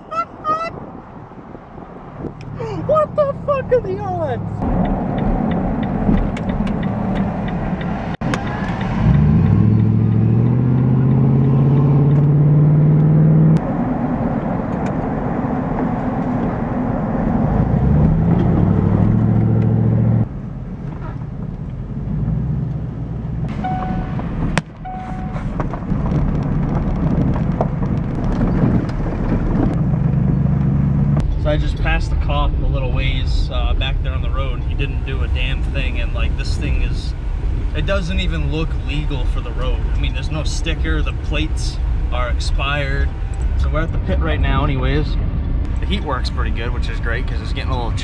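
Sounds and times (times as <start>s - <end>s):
truck engine accelerating: 2.0s - 48.0s.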